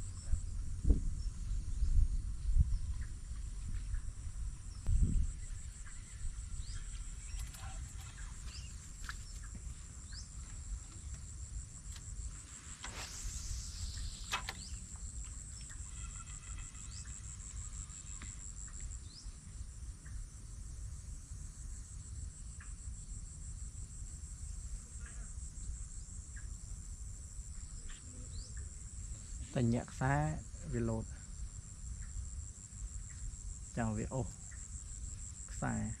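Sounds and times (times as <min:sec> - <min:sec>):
insects trilling: 0:01.2 - 0:36.0.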